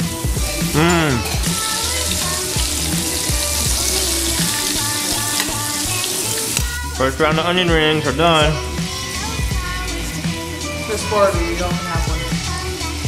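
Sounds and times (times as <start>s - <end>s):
food deep-frying in oil: 0.0s - 7.0s, 8.6s - 13.0s
background music with a beat: 0.0s - 13.0s.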